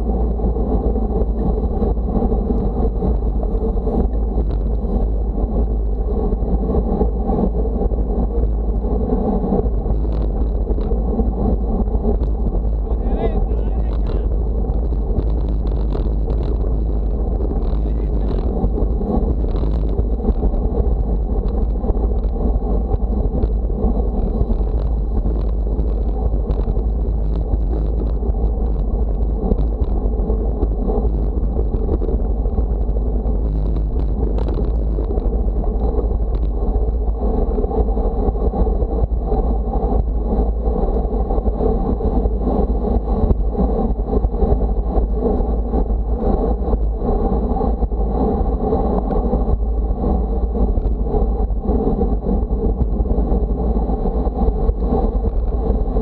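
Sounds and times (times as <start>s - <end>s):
travel noise: 0.0s - 56.0s
wind rumble on microphone: 0.0s - 56.0s.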